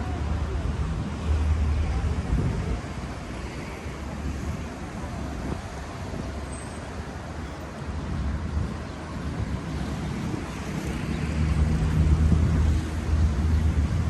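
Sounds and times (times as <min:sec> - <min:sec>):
wind rumbling on microphone: 0:00.1 - 0:14.0.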